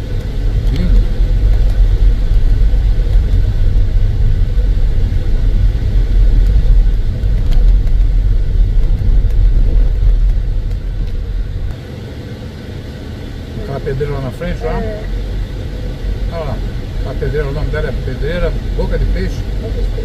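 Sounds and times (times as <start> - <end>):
car tyres rumbling on dirt road: 0.0 - 20.0.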